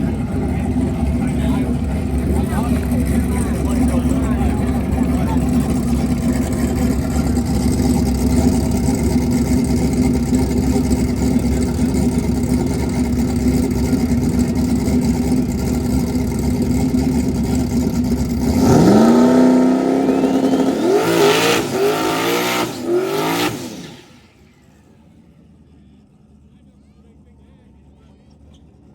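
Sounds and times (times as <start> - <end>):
car engine running and revving: 0.0 - 28.9.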